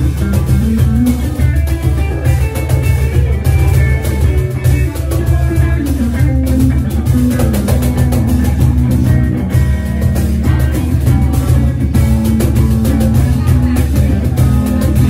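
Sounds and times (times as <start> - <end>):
cajon beat: 0.0 - 15.0
electric guitar: 0.0 - 15.0
low bass notes: 0.0 - 15.0.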